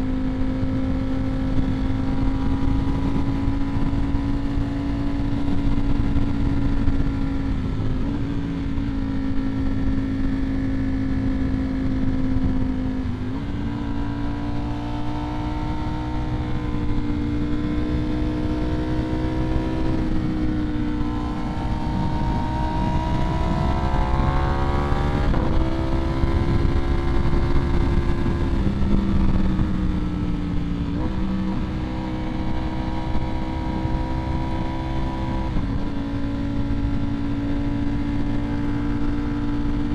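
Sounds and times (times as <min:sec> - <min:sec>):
motorcycle engine accelerating: 0:00.0 - 0:39.9
wind and road rush: 0:00.0 - 0:39.9.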